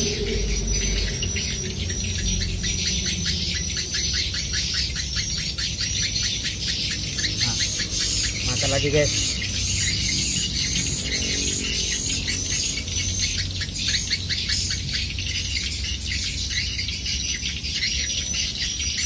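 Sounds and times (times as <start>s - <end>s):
low steady rumble: 0.0s - 17.2s
small birds chirping: 0.0s - 19.0s.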